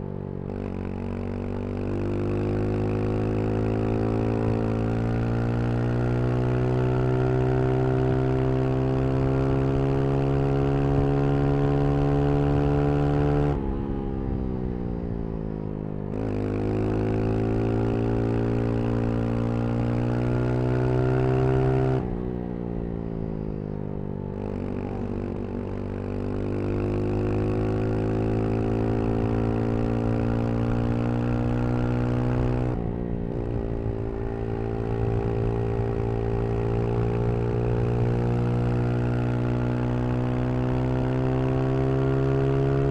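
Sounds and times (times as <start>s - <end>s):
motorcycle engine revving: 0.4s - 14.2s, 16.1s - 23.5s, 24.2s - 42.9s.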